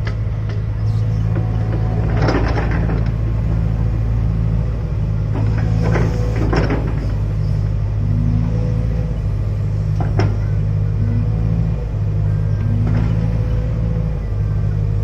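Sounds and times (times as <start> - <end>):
diesel engine running: 0.0 - 15.0
hydraulic whines: 0.8 - 15.0.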